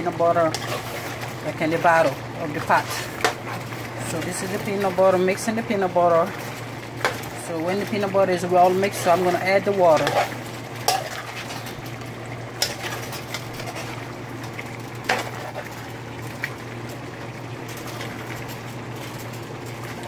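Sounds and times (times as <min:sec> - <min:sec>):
stew sloshing in a pot: 0:00.0 - 0:20.0.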